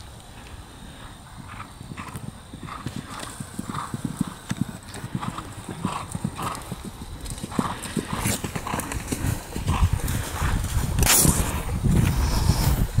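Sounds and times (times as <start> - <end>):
horse hoofbeats on grass: 1.4 - 13.0.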